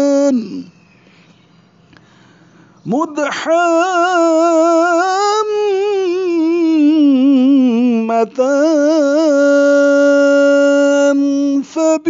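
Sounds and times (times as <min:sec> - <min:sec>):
person chanting melodically: 0:00.0 - 0:00.8, 0:02.8 - 0:12.0.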